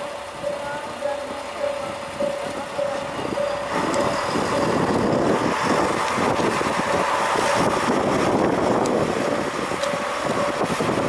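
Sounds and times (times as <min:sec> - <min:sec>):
diesel train engines rumbling: 0:00.0 - 0:11.0
wind buffeting microphone: 0:02.0 - 0:11.0.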